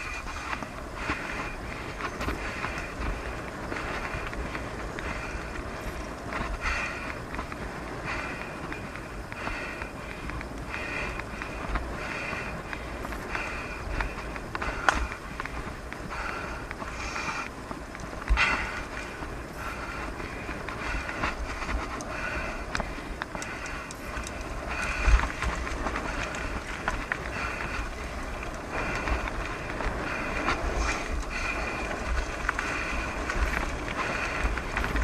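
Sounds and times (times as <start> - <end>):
bicycle tyres rumbling on gravel: 0.0 - 35.0
wind buffeting microphone: 0.0 - 35.0.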